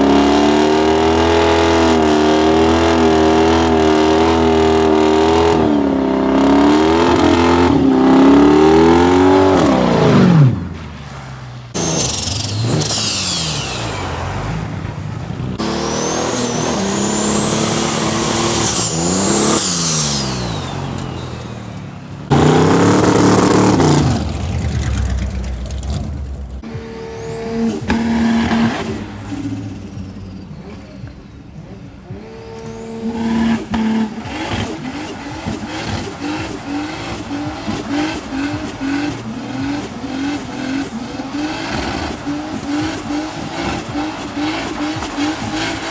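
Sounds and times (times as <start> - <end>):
cars revving and accelerating: 0.0 - 45.9
engine pulsing steadily: 0.0 - 45.9.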